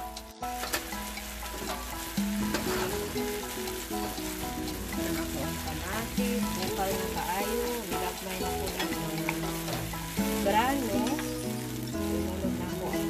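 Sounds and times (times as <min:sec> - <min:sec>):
melodic background music: 0:00.0 - 0:13.0
vegetables sizzling in a frying pan: 0:00.0 - 0:13.0
wooden spatula stirring: 0:00.2 - 0:13.0.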